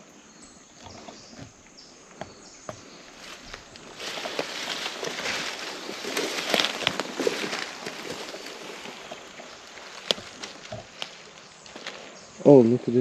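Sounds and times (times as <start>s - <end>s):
dry leaves and brush crackling: 0.8s - 12.6s.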